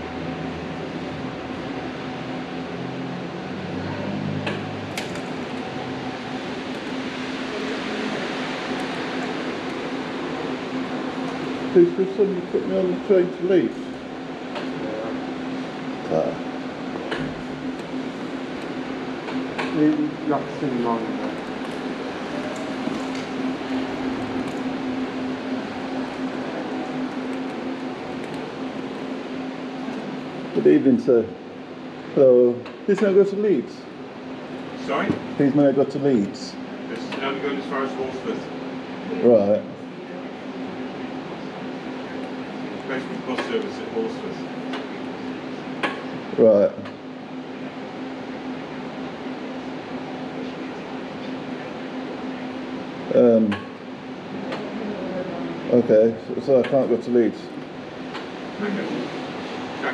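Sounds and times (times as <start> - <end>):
mechanical hum and air noise: 0.0 - 59.9.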